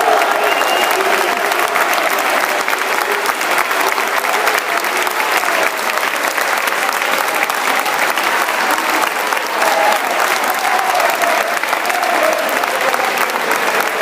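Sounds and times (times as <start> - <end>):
crowd clapping: 0.0 - 14.0
crowd voices: 0.0 - 14.0.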